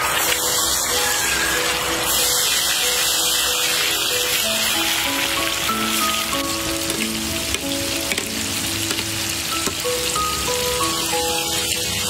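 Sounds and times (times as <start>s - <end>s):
light background melody: 0.0s - 12.0s
oil bubbling and sizzling: 0.0s - 12.0s.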